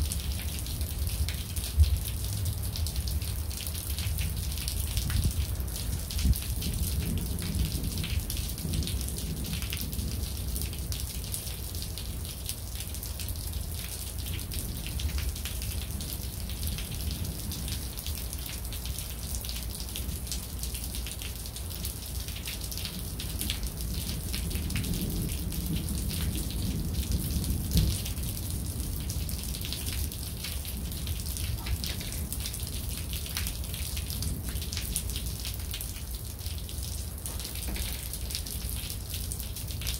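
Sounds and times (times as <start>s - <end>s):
rain drops hitting close by: 0.0s - 39.9s.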